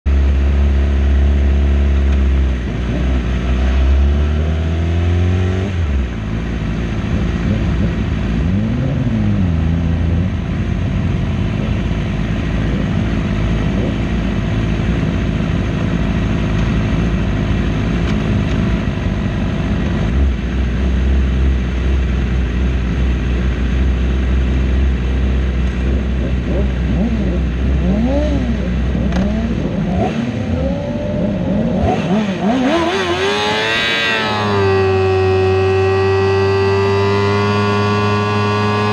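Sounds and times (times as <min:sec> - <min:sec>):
racing motorcycle engine accelerating: 0:00.1 - 0:38.9.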